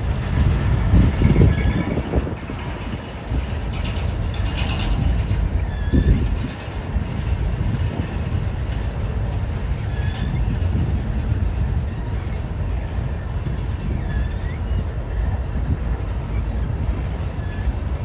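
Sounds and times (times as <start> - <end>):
high wheel squeaks: 0.0 - 18.0
train wheels rumbling on rail: 0.0 - 18.0.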